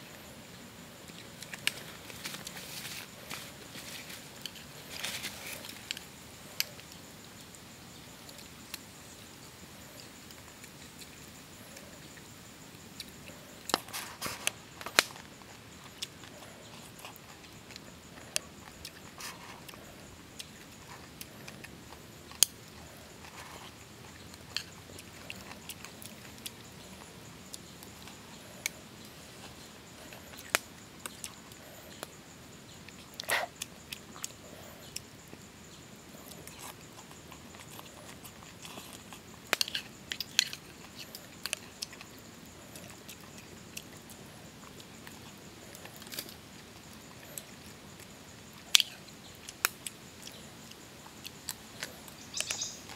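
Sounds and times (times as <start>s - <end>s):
quiet chewing: 0.0s - 52.9s.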